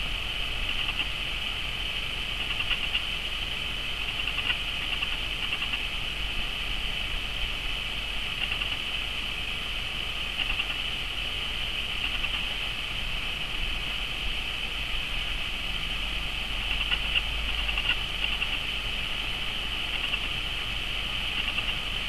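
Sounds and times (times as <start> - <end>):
insects droning: 0.0 - 22.0
low steady rumble: 0.0 - 22.0.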